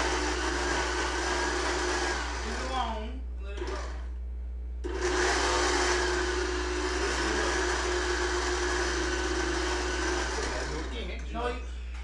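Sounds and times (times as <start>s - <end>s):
blender running: 0.0s - 3.0s, 3.6s - 4.2s, 4.8s - 11.1s.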